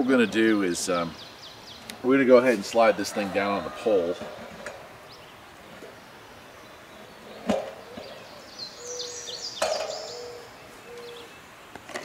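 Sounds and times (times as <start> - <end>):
small birds chirping: 0.0 - 3.3, 4.2 - 11.6.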